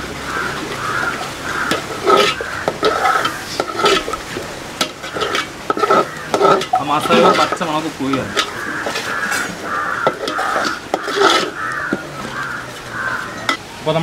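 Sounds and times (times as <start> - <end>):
metal ladle scraping pot: 0.3 - 13.6.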